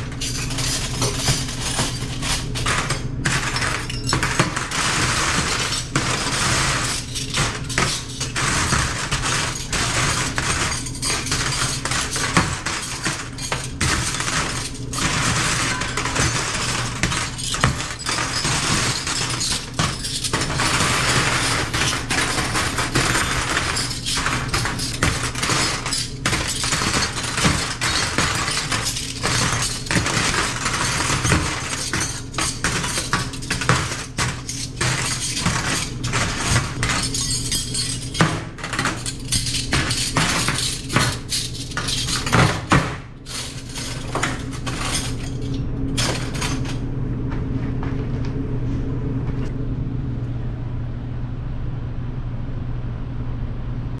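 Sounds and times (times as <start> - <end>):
cutlery clattering: 0.0 - 46.8
machine hum: 0.0 - 54.0.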